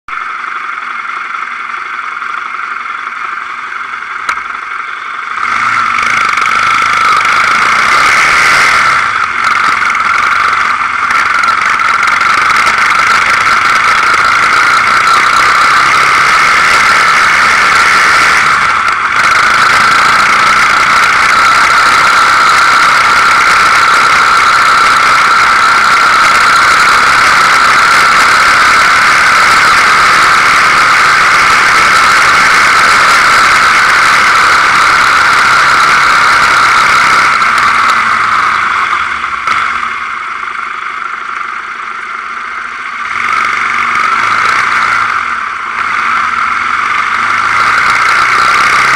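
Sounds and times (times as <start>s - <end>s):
high whine: 0.1s - 48.9s
quad bike engine: 0.1s - 48.9s.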